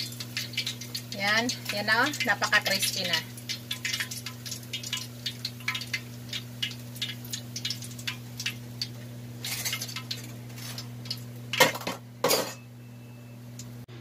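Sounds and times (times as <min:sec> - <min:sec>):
hot oil crackling and popping: 0:00.0 - 0:13.9.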